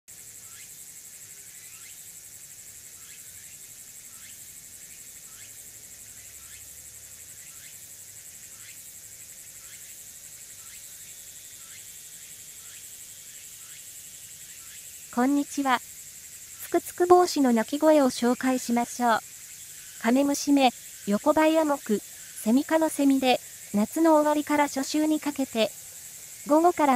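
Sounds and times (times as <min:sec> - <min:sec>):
cicada pulsing buzz: 0:00.1 - 0:26.9.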